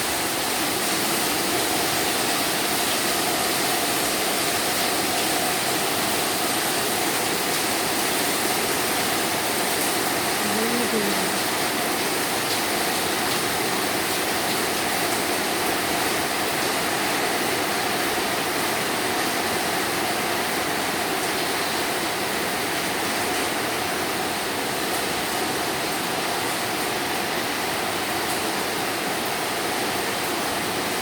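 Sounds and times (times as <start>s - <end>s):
heavy rain and hail: 0.0s - 31.0s.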